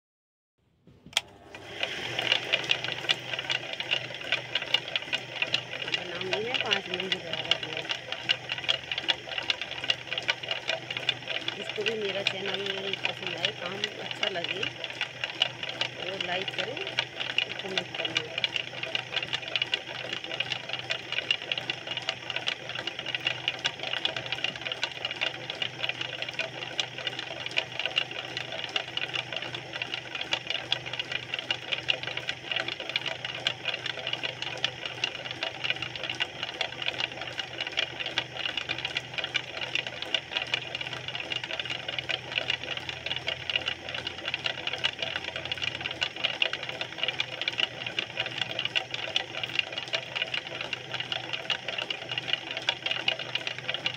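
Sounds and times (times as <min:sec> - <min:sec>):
potter's wheel motor whirring: 0:00.9 - 0:53.9.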